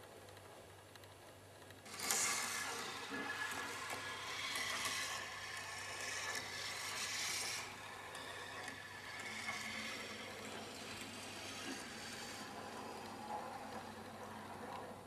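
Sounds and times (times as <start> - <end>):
marble rolling on plastic rails: 1.8 - 15.0.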